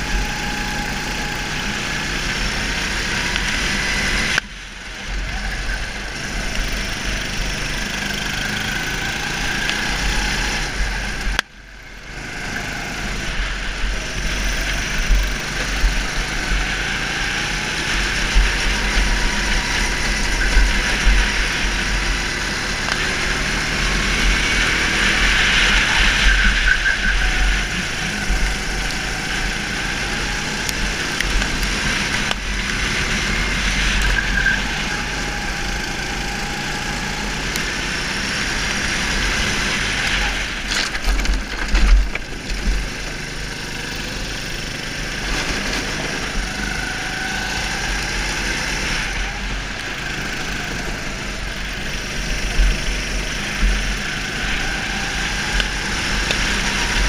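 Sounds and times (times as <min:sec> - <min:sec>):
go-kart engine running hard: 0:00.0 - 0:57.0.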